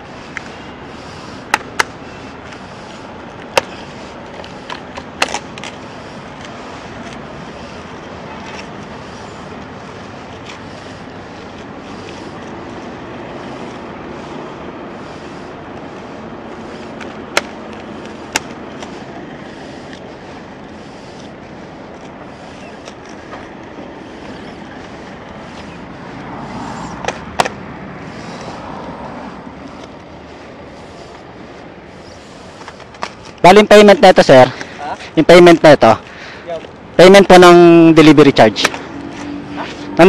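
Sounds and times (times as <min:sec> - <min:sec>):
street noise: 0:00.0 - 0:40.0.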